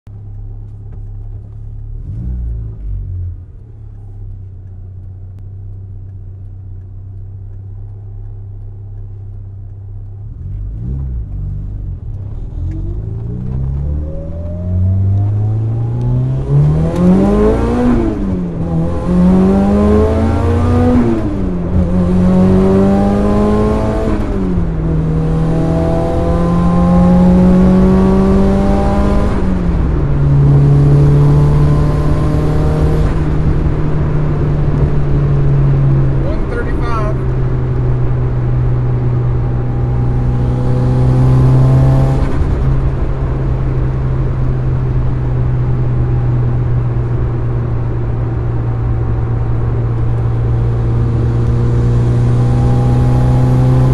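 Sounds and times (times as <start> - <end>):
car engine accelerating: 0.1 - 53.9.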